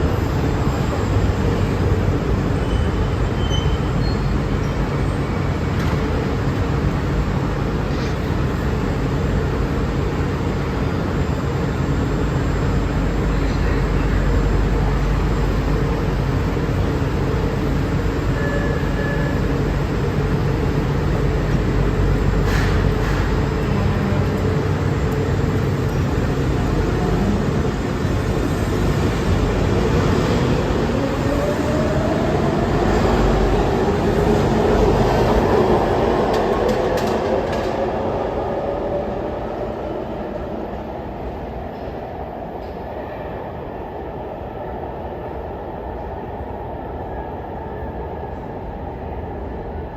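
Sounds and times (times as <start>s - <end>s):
subway train rumbling: 0.0s - 49.9s.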